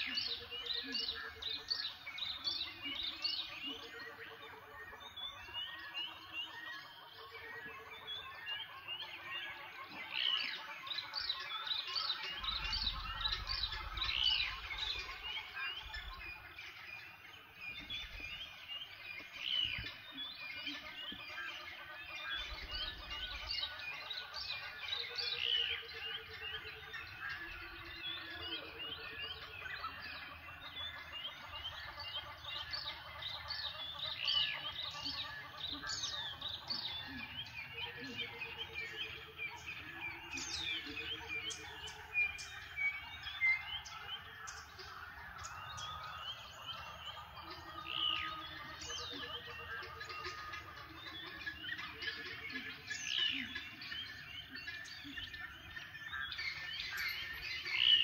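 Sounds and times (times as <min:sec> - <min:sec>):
birds chirping and calling: 0:00.0 - 0:58.0.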